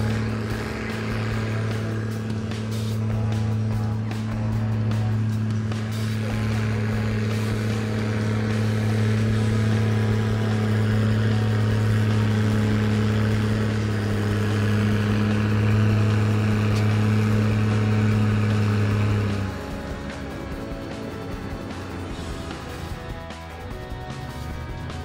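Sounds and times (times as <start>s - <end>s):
tractor diesel engine running hard: 0.0s - 25.0s.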